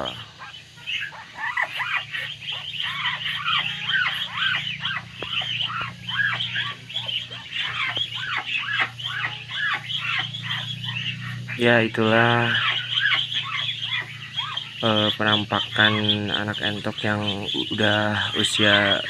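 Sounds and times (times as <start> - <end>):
ducklings peeping: 0.0 - 19.0
steady low hum: 0.0 - 19.0.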